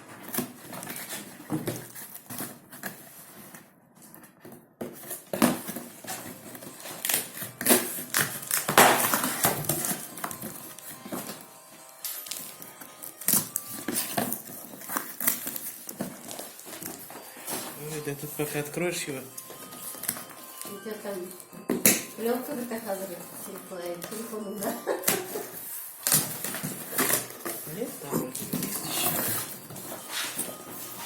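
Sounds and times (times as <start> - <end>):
cardboard parcel being opened: 0.0 - 31.0.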